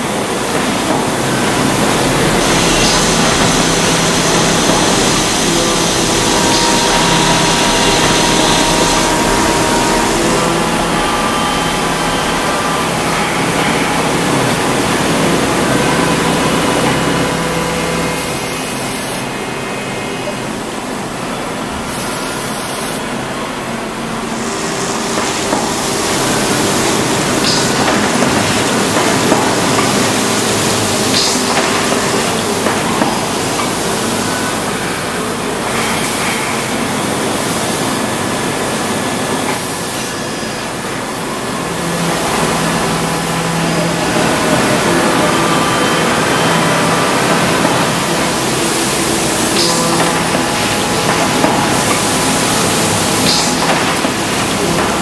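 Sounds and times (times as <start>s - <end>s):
machining centre humming: 0.0s - 55.0s.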